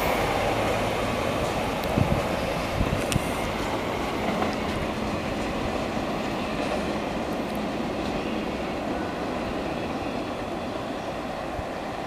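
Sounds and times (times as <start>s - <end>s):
train rail rumble: 0.0s - 12.0s.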